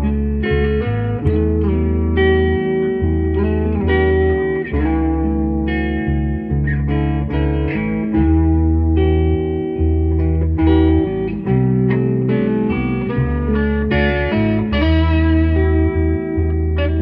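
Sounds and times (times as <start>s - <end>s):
looped bass line: 0.0s - 17.0s
overdriven electric lead guitar: 0.0s - 17.0s.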